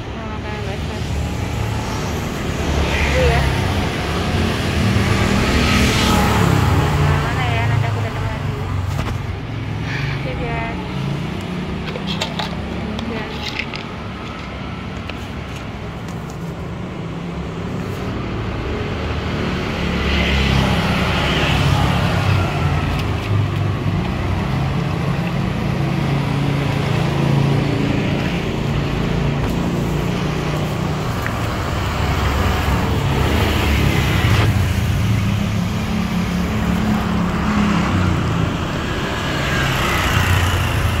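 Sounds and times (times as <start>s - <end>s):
passing vehicle engines: 0.0s - 41.0s.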